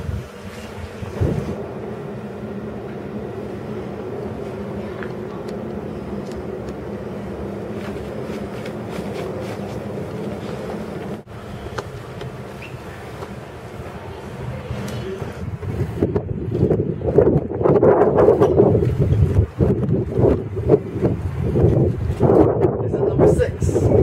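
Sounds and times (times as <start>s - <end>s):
vehicle engine rumble and hum: 0.0s - 22.9s.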